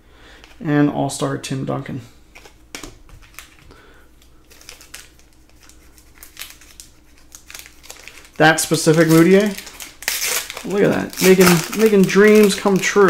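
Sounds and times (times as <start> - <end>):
foil wrappers crinkling: 2.3 - 13.0.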